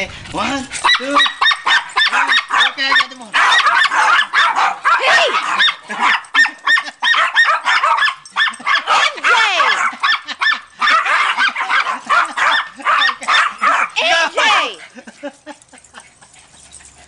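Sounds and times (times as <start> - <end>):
small dogs barking and yipping: 0.4 - 17.0.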